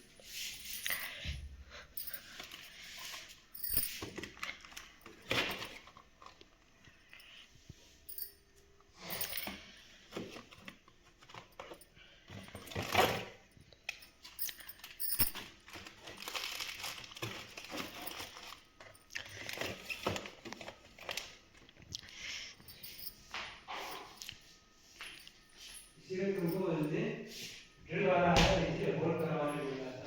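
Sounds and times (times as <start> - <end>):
rustling and crinkling: 0.0 - 27.8.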